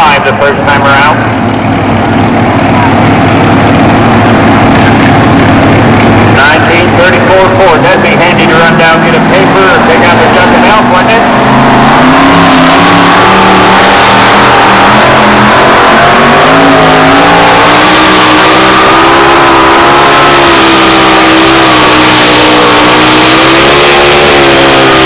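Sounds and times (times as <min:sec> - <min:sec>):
truck engine at full throttle: 0:00.0 - 0:25.0.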